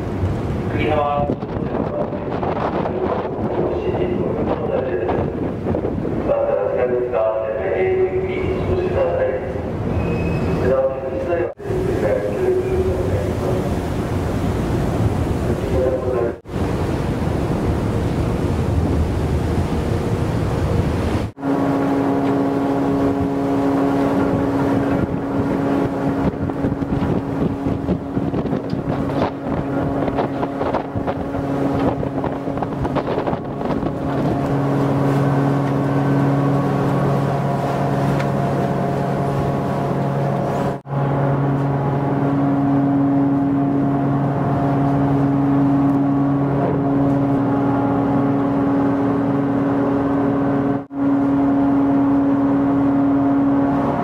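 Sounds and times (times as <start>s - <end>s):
water noise: 0.0s - 54.0s
wind: 0.0s - 54.0s
ferry engines droning: 6.1s - 54.0s.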